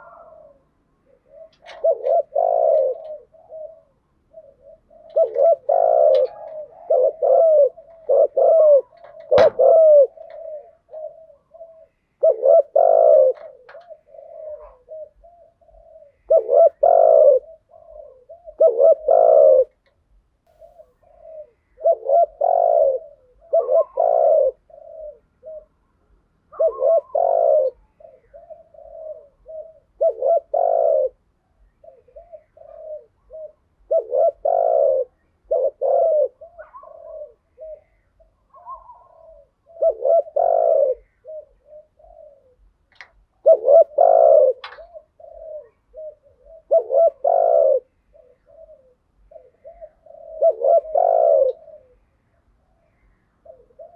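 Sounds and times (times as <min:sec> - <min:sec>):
dove cooing: 0:00.0 - 0:53.9.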